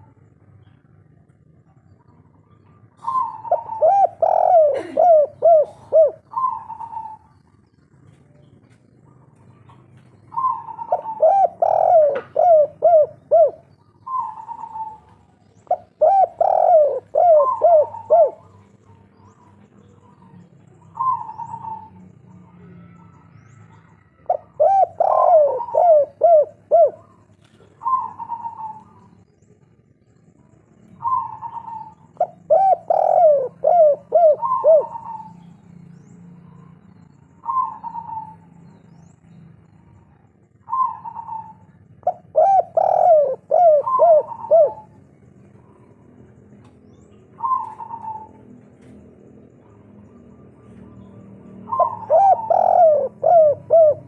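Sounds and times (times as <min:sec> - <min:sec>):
dove cooing: 0:00.0 - 0:29.4, 0:30.8 - 0:54.0.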